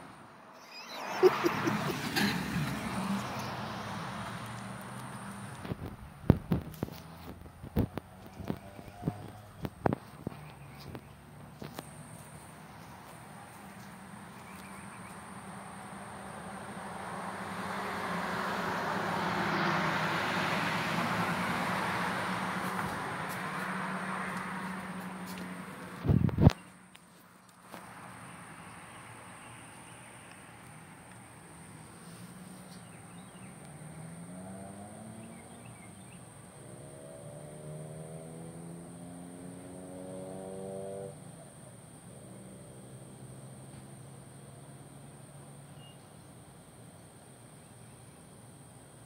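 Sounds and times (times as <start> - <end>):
vehicle passing road noise: 0.0 - 47.4.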